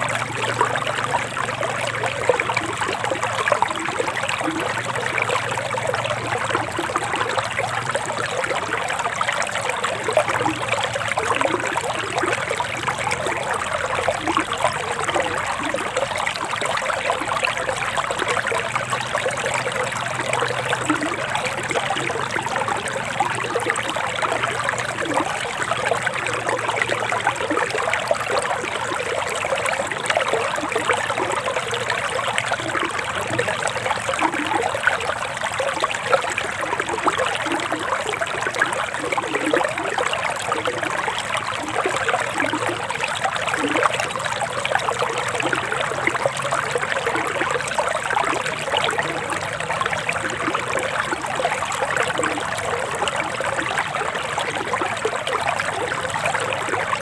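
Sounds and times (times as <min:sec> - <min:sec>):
river babbling: 0:00.0 - 0:57.0.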